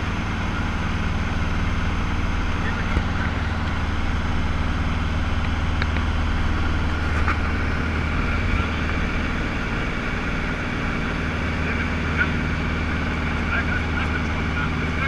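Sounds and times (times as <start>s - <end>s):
light aircraft engine and propeller droning: 0.0s - 15.0s.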